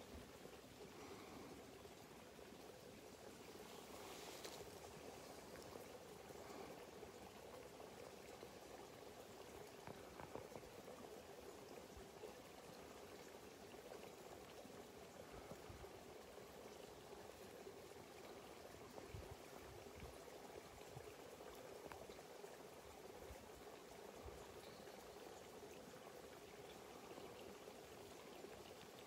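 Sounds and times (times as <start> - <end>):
water trickling and gurgling: 0.0 - 29.0.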